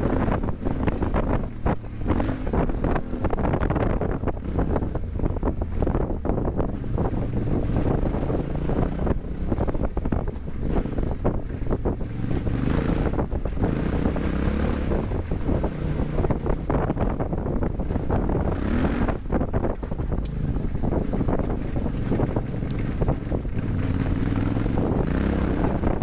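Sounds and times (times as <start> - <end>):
motorcycle engine revving: 0.0 - 26.0
wind buffeting microphone: 0.0 - 26.0.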